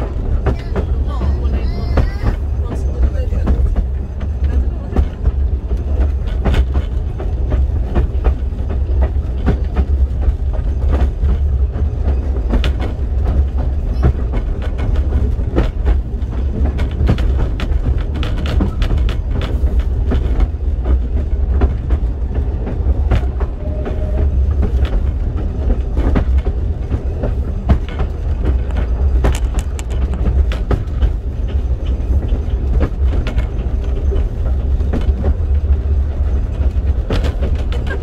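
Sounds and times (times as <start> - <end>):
train carriage rumble: 0.0 - 38.0
wheels clicking on track: 0.0 - 38.0.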